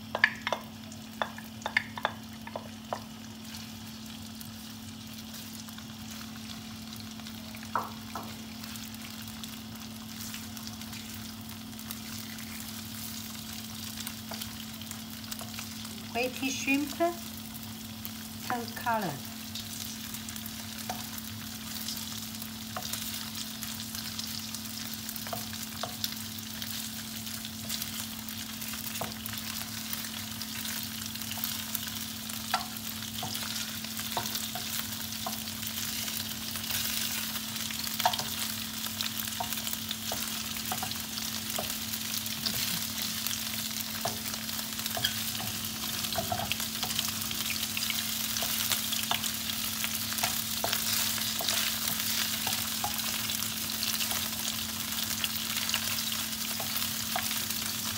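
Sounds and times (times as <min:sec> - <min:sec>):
shrimp sizzling in oil: 0:00.0 - 0:57.9.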